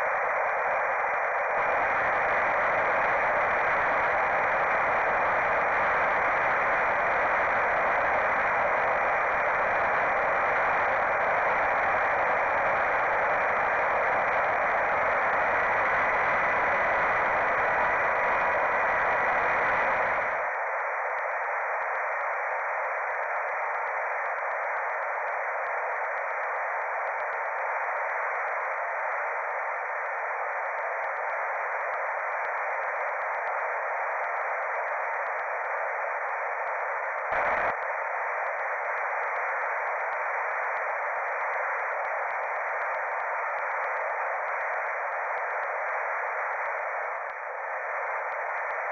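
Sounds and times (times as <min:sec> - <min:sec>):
camera microphone hiss: 0:00.0 - 0:22.0, 0:29.9 - 0:48.9.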